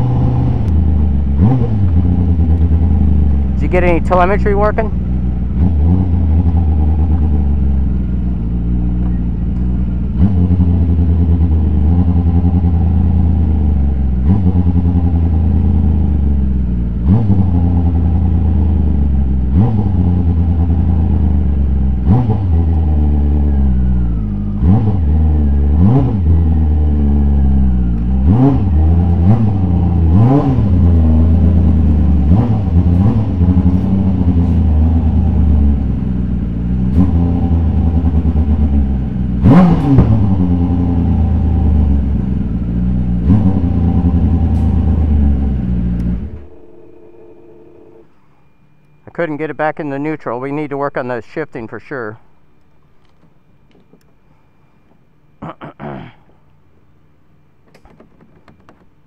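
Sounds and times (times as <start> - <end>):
motorcycle engine at low revs: 0.0 - 49.4, 52.4 - 59.0.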